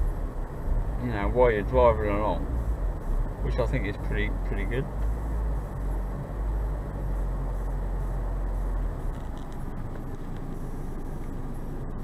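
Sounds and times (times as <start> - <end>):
car cabin noise: 0.0 - 12.0
deep rumble: 0.0 - 12.0.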